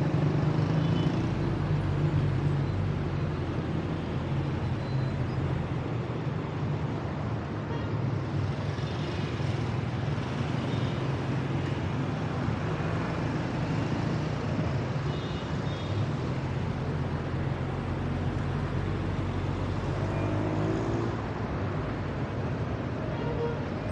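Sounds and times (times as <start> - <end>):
slow traffic road noise: 0.0 - 23.9.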